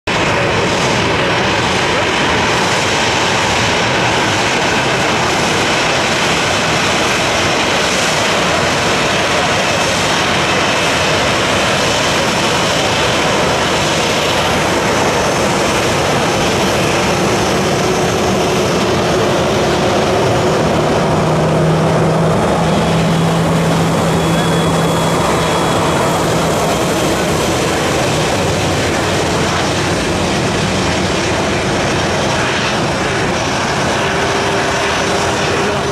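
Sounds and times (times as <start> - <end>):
jet engines running: 0.1 - 35.9.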